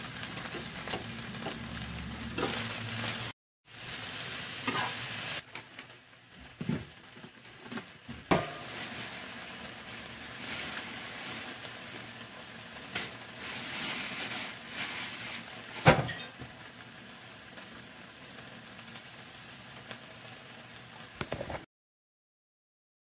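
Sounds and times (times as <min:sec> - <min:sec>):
food sizzling in a frying pan: 0:00.0 - 0:21.7.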